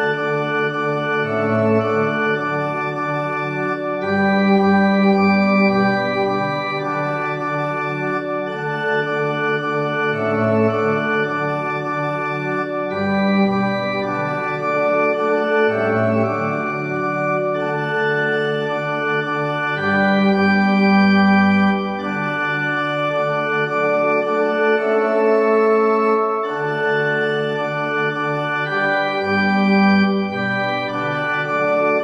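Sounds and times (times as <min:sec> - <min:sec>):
slow organ music: 0:00.0 - 0:32.0.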